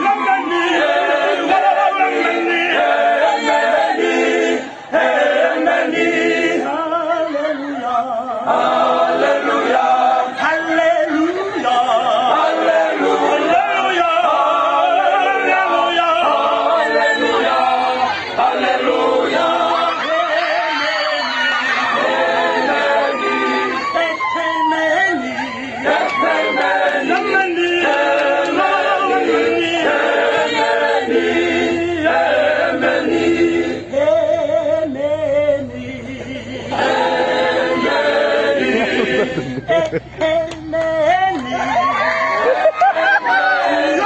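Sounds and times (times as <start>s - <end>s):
male choir singing a cappella: 0.0s - 44.0s.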